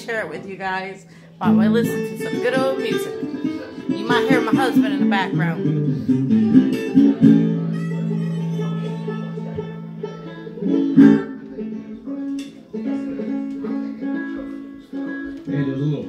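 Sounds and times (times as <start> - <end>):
plucked guitar music: 0.0 - 16.0.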